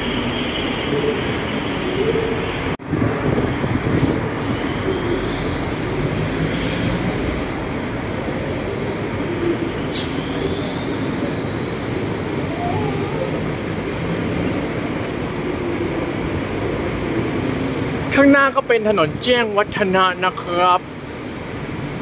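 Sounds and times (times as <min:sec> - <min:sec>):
heavy road traffic: 0:00.0 - 0:22.0.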